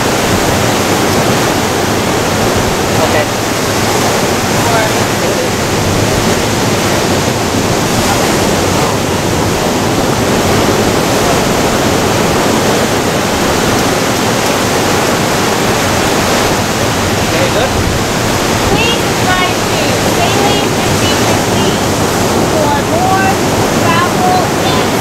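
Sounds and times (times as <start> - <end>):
surf breaking on rocky shore: 0.0 - 25.0.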